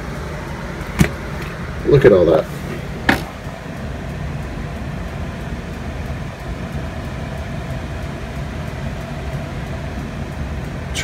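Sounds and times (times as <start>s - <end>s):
faint steady tone: 0.0s - 11.0s
low rumbling room hum: 0.0s - 11.0s.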